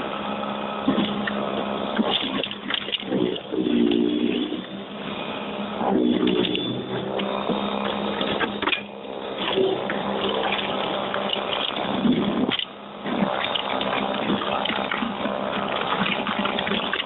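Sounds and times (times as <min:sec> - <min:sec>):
auger churning snow: 0:00.0 - 0:17.0
snowblower motor hum: 0:00.0 - 0:17.0.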